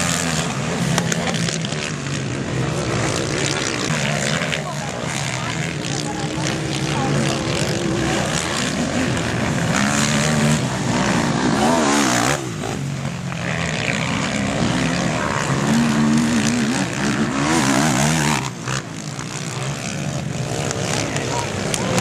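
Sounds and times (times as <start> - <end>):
quad engines revving: 0.0 - 22.0.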